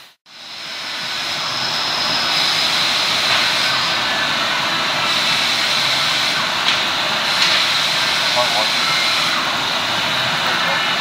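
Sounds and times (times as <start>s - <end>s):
machine whining with air rush: 0.0s - 11.0s.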